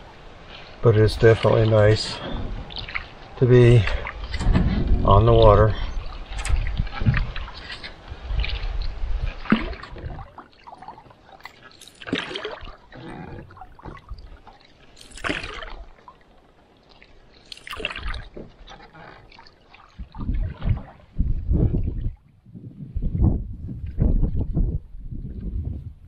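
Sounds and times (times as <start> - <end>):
lake water sloshing: 0.0 - 22.4.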